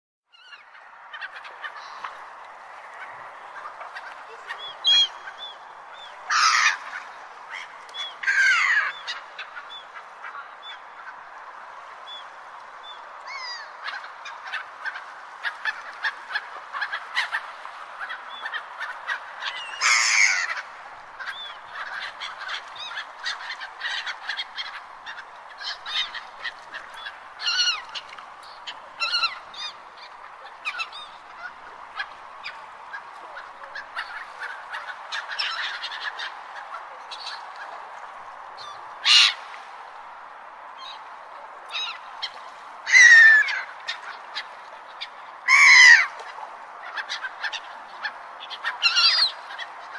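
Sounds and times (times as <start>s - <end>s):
steady background hiss: 0.4s - 49.9s
seagulls squawking: 2.9s - 11.2s, 13.3s - 37.5s, 38.6s - 39.5s, 41.7s - 46.2s, 46.8s - 49.9s.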